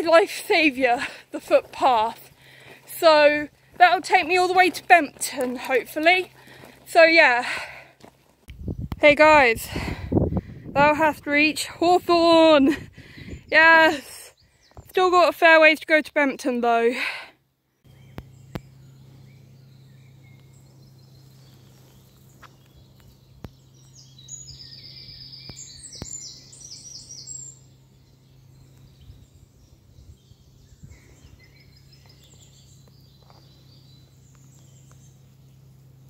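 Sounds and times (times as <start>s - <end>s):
steady low hum: 0.0s - 15.0s, 16.9s - 36.0s.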